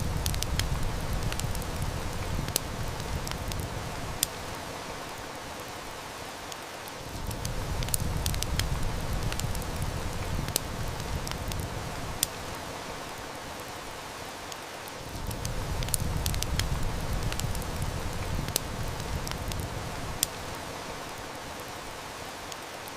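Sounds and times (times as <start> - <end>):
heavy rain: 0.0 - 22.9
wood fire crackling: 0.0 - 22.9.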